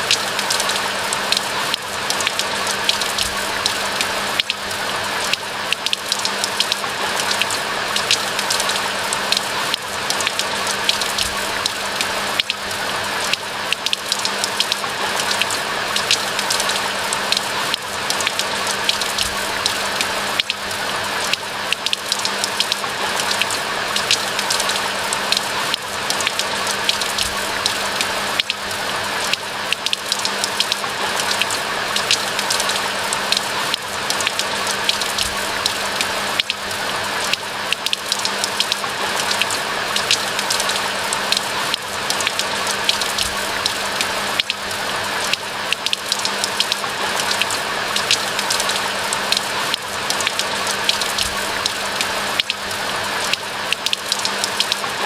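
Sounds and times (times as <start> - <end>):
raindrops ticking: 0.0 - 55.0.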